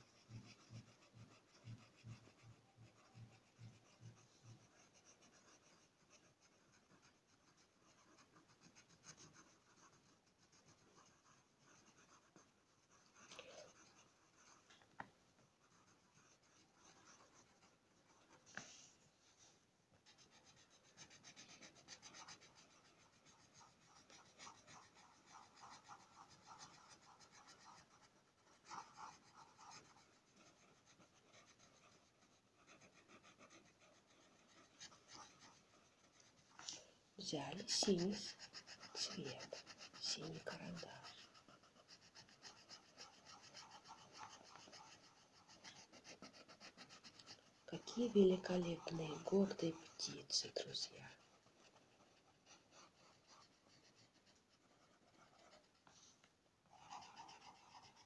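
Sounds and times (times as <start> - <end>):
pencil scratching on paper: 0.0 - 58.0.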